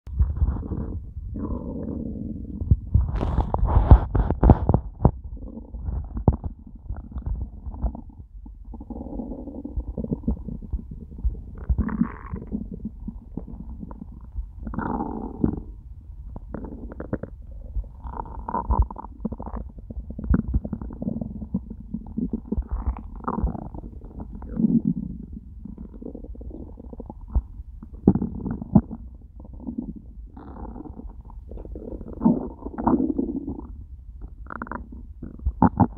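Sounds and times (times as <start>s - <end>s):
stomach growling: 0.0s - 35.9s.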